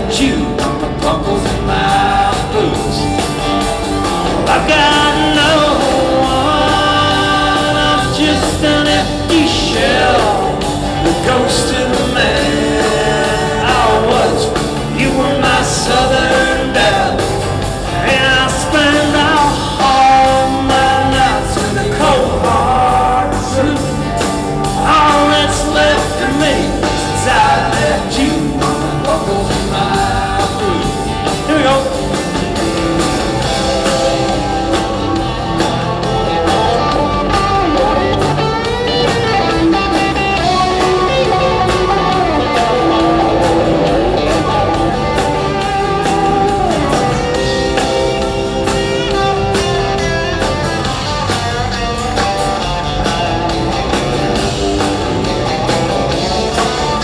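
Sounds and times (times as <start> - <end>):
country rock band music: 0.0 - 57.0.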